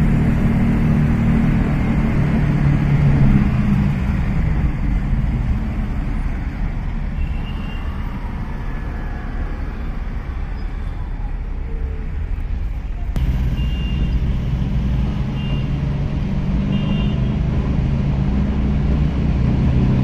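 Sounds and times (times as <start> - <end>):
car engine hum: 0.0 - 7.2, 7.9 - 20.0
road rumble: 0.0 - 20.0.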